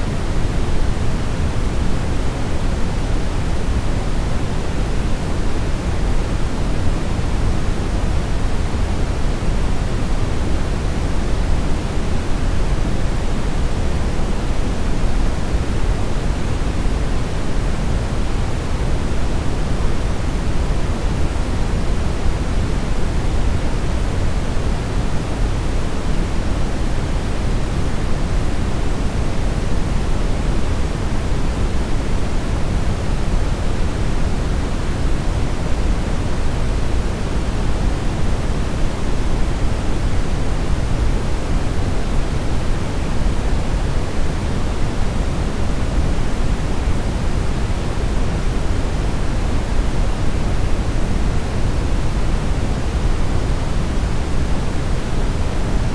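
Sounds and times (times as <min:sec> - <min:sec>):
brown noise hiss-rumble: 0:00.0 - 0:55.9.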